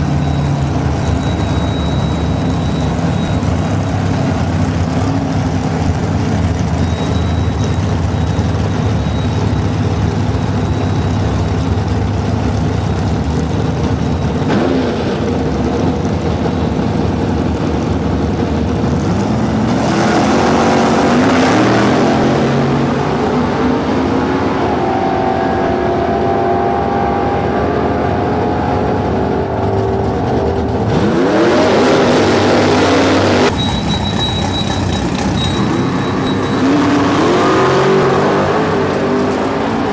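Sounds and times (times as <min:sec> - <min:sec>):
drag car engine idling and revving: 0:00.0 - 0:39.9.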